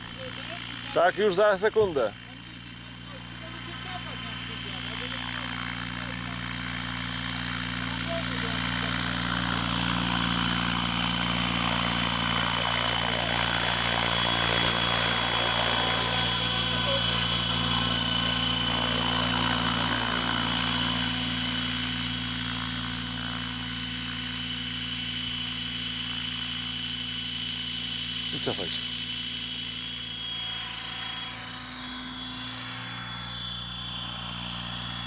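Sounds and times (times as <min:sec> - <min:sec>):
model helicopter rotor whine: 0:00.0 - 0:35.0.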